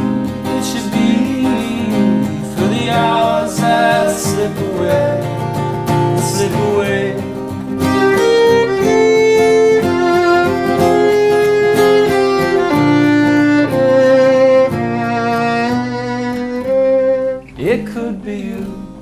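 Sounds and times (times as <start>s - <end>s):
violin bowed melody: 0.0s - 17.7s
acoustic guitar strumming: 0.0s - 19.0s.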